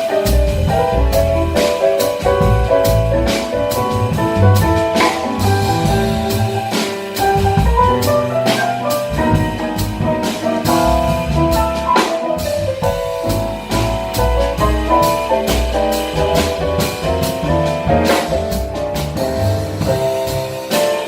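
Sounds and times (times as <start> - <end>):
jazz piano trio playing: 0.0 - 21.0.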